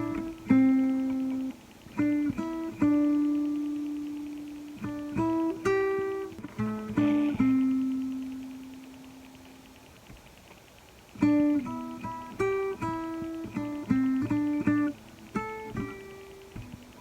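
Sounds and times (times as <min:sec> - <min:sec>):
acoustic guitar slow melody: 0:00.0 - 0:17.0.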